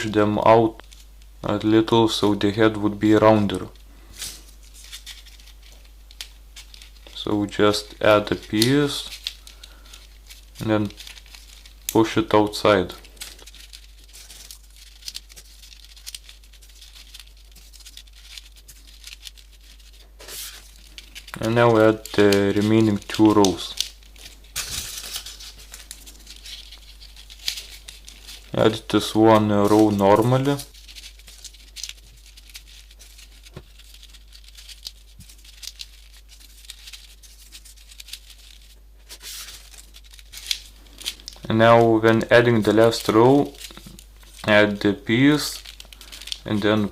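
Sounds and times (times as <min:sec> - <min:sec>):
paper rustling: 0:03.5 - 0:46.9
small paper clicks: 0:04.2 - 0:46.9.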